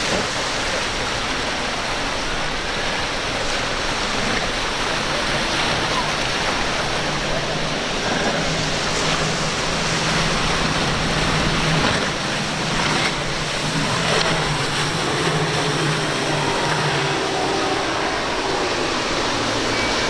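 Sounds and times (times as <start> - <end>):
boat engine drone: 0.0 - 20.0
breaking surf and spray: 0.0 - 20.0.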